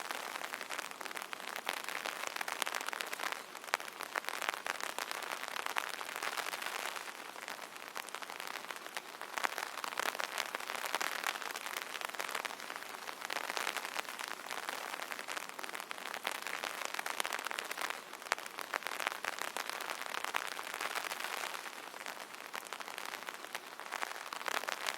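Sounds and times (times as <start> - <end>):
rain drumming on an umbrella: 0.0 - 24.9.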